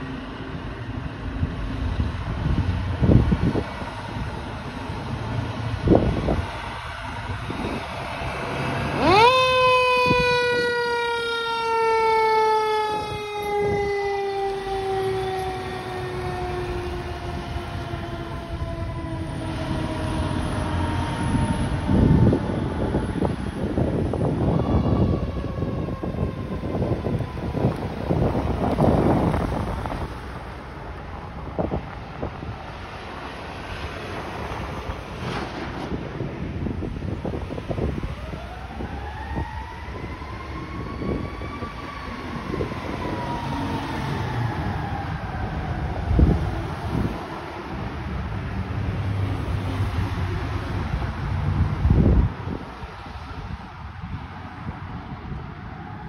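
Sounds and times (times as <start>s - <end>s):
truck engine rumble: 0.0s - 56.0s
wind buffeting microphone: 1.2s - 56.0s
fire truck siren: 1.9s - 56.0s.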